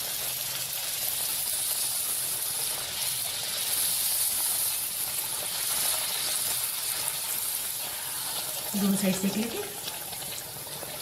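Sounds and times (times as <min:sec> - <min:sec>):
dough deep-frying in hot oil: 0:00.0 - 0:11.0.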